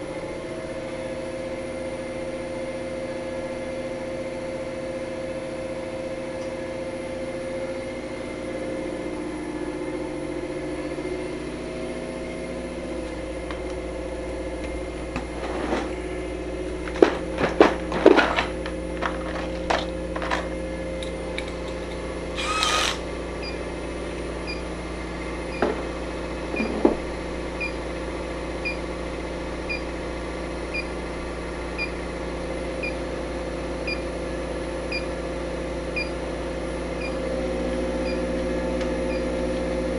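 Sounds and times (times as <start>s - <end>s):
machinery hum: 0.0s - 3.4s, 4.3s - 39.9s.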